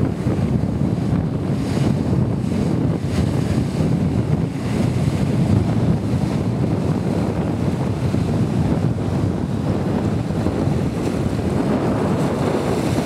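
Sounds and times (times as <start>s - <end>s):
choppy water splashing: 0.0s - 13.0s
wind buffeting microphone: 0.0s - 13.0s.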